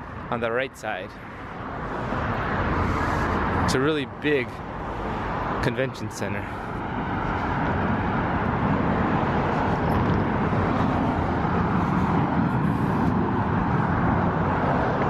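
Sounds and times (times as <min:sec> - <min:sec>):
cars driving past: 0:00.9 - 0:15.0.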